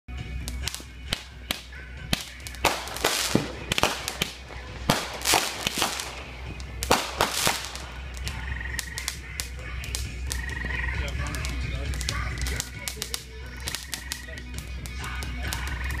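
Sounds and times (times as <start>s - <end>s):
fireworks crackling: 0.1s - 16.0s
fireworks cracking and popping: 0.2s - 16.0s.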